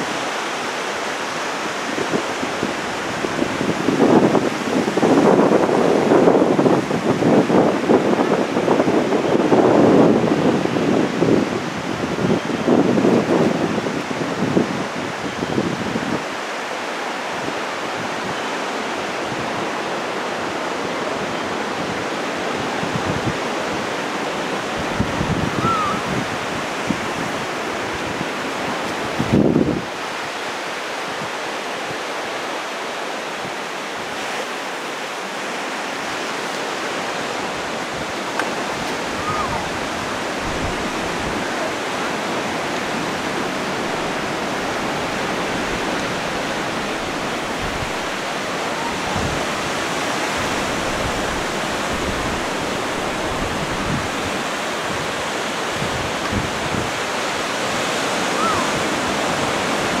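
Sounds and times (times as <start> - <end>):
sea surf on a beach: 0.0 - 60.0.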